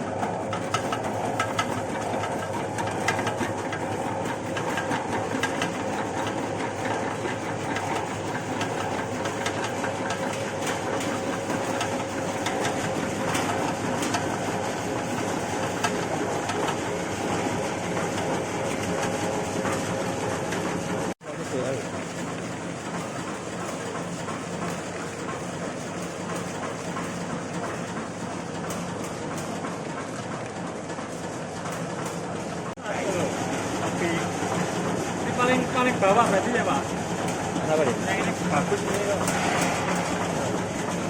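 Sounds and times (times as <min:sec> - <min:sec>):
machine motor hum: 0:00.0 - 0:41.0.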